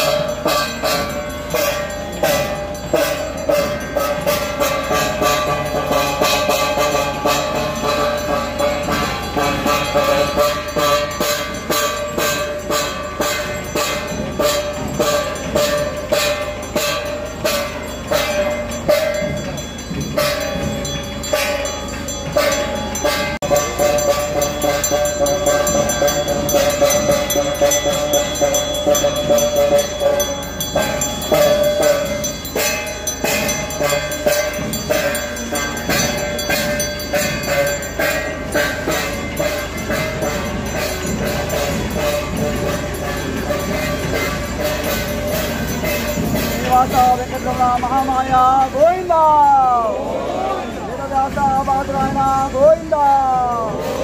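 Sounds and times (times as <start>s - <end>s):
fast percussion beats: 0.0s - 54.0s.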